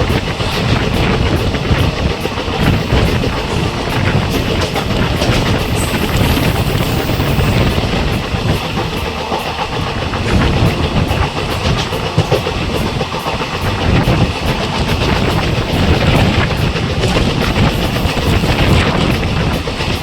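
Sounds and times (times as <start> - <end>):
train wheels clattering on rails: 0.0 - 20.0.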